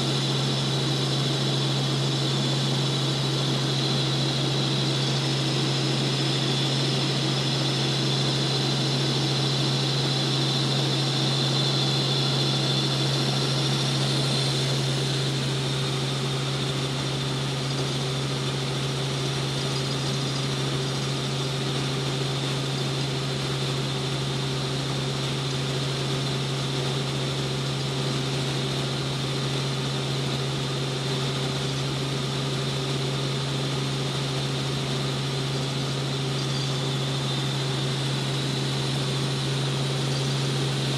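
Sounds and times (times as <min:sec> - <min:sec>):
helicopter cabin drone: 0:00.0 - 0:40.9.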